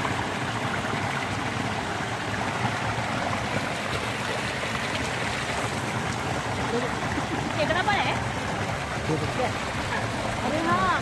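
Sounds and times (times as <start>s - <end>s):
water flowing steadily: 0.0s - 11.0s.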